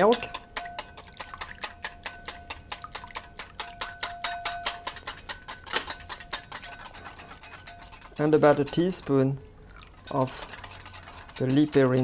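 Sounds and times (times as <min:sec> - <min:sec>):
whisk clicking against glass bowl: 0:00.0 - 0:12.0.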